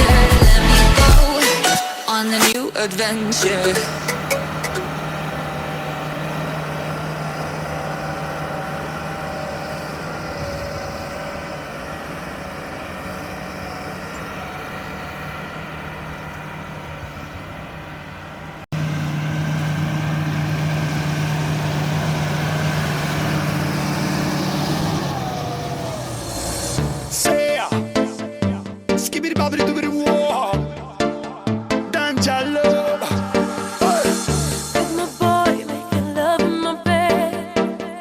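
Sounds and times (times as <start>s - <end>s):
tractor diesel engine droning: 0.0s - 28.2s, 31.3s - 37.4s.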